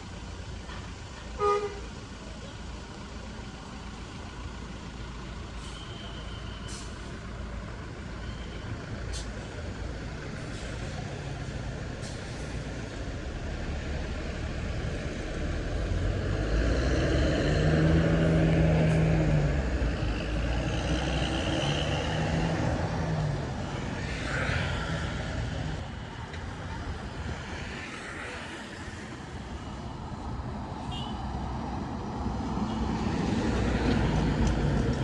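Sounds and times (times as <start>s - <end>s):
heavy vehicle engine: 0.0s - 35.0s
low traffic rumble: 0.0s - 35.0s.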